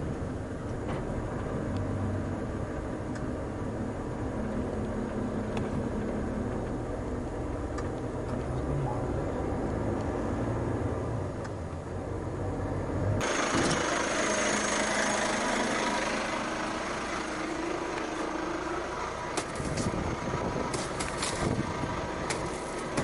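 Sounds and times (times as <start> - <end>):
heavy truck engine running: 0.0 - 9.9, 13.2 - 23.0.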